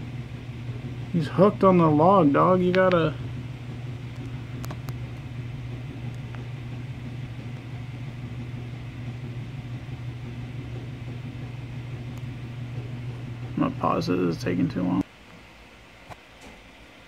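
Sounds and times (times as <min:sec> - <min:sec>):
low hum: 0:00.0 - 0:15.1.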